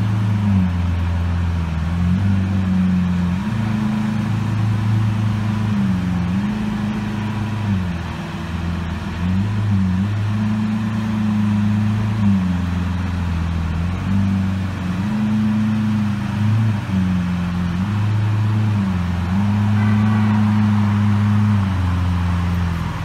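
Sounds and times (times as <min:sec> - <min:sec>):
car engine idling: 0:00.0 - 0:03.6, 0:04.2 - 0:23.0.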